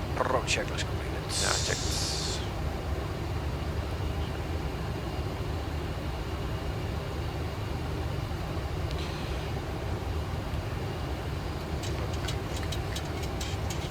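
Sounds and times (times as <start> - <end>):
airplane cockpit engine rumble: 0.0 - 13.9.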